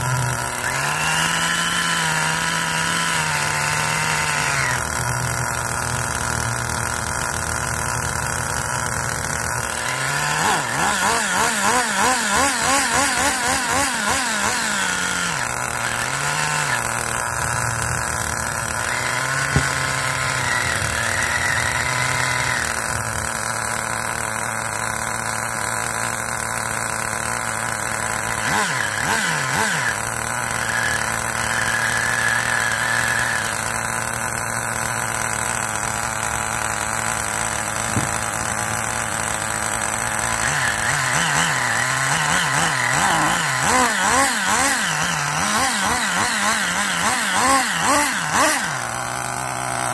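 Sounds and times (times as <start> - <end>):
small nitro engine idling: 0.0 - 49.9.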